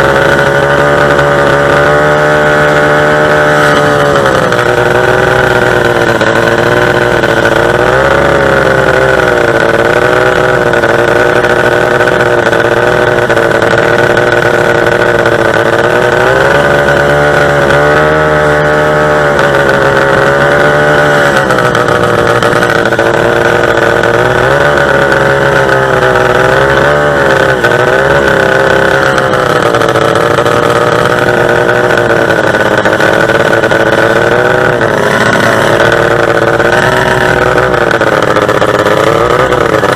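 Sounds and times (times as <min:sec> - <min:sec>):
boat engine revving: 0:00.0 - 0:39.9.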